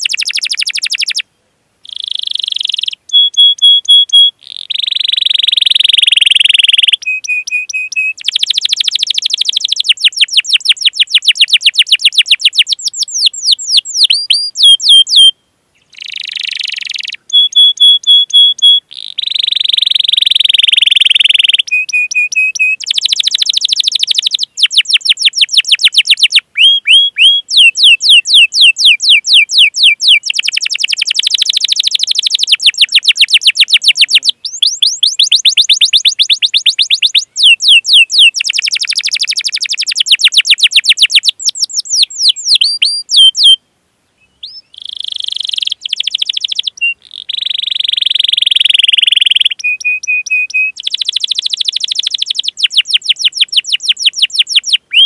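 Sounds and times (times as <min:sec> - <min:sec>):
canary singing: 0:00.0 - 0:43.6, 0:44.2 - 0:55.0.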